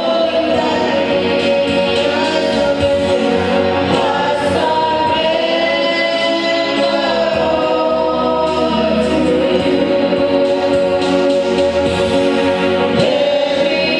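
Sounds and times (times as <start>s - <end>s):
choir singing gospel music: 0.0s - 13.9s
instrumental backing: 0.0s - 13.9s.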